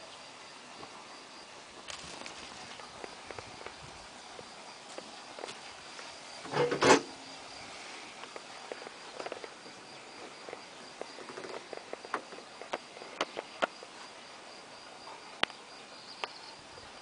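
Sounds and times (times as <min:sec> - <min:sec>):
pulsing insect chirp: 0:00.0 - 0:17.0.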